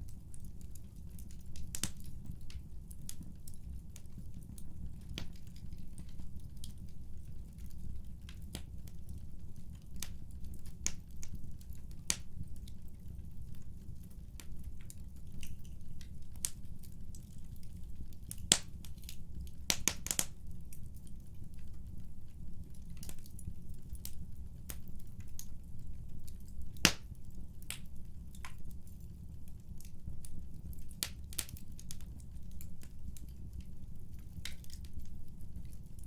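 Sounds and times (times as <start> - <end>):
low rumble of flames: 0.0 - 36.0
wood fire crackling and popping: 0.0 - 36.0.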